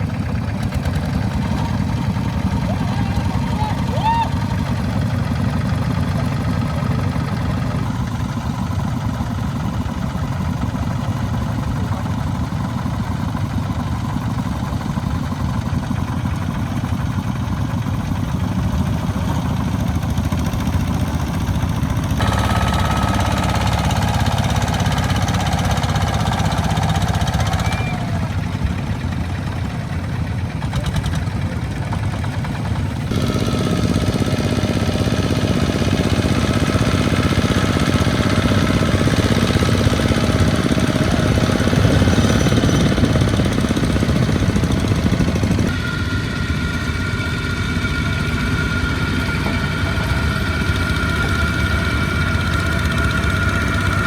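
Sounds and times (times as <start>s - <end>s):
tractor engines chugging: 0.0s - 54.0s.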